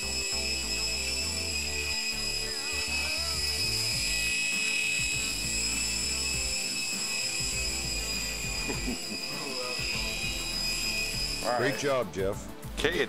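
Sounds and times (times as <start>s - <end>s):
toy helicopter whine: 0.0s - 12.2s.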